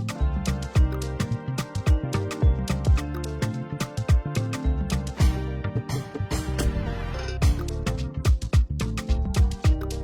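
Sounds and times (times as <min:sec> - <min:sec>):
upbeat electronic background music: 0:00.0 - 0:10.0.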